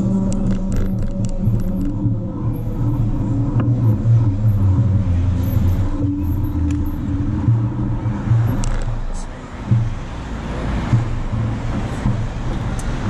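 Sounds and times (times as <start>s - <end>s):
cars passing: 0.0s - 13.0s
road traffic rumble: 0.0s - 13.0s.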